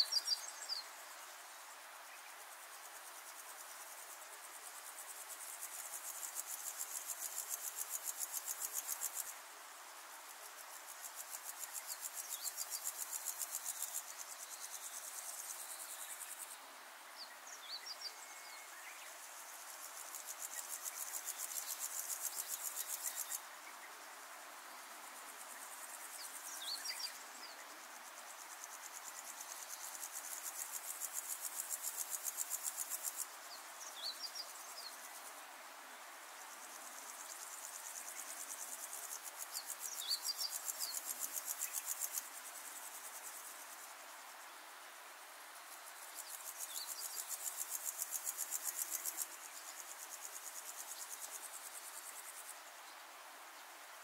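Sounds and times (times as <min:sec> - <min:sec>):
insects trilling: 0:00.0 - 0:16.6, 0:17.2 - 0:44.5, 0:45.3 - 0:53.0.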